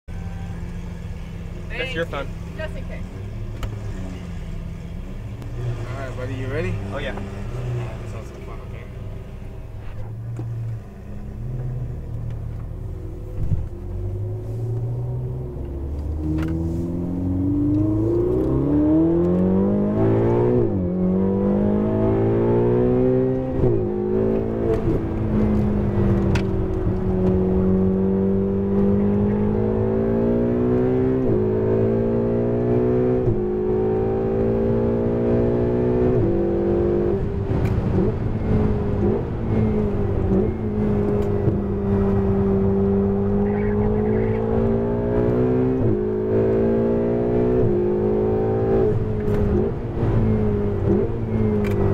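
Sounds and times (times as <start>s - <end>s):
car engine accelerating: 0.1s - 51.9s.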